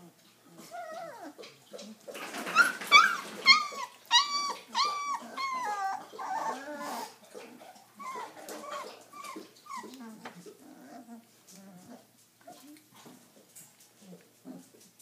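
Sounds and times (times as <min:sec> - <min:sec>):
puppies yelping and whimpering: 0:00.5 - 0:12.7.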